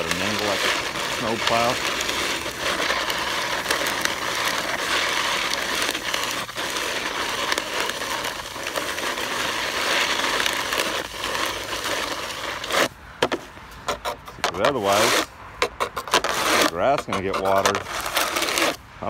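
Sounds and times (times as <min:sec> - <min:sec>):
snow crunching: 0:00.0 - 0:12.9, 0:14.0 - 0:15.3, 0:16.0 - 0:18.8
plastic shovel scraping pavement: 0:00.0 - 0:18.8.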